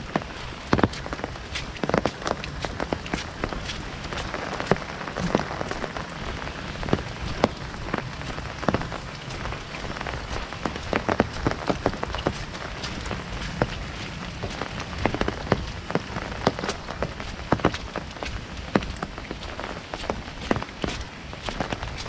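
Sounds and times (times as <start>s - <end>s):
heavy rain drumming on an umbrella: 0.0s - 22.0s.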